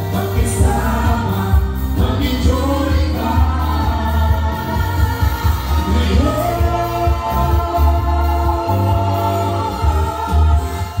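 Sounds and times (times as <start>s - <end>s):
heavy pulsing bass line: 0.0s - 11.0s
live pop music with singers: 0.0s - 11.0s.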